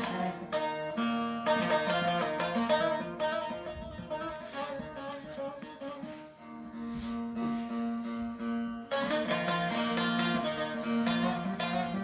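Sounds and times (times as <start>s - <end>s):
plucked string instrument melody: 0.0s - 12.0s.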